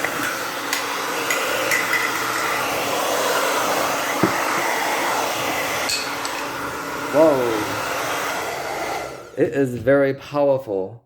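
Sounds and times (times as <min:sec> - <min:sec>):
hair dryer blowing: 0:00.0 - 0:09.6.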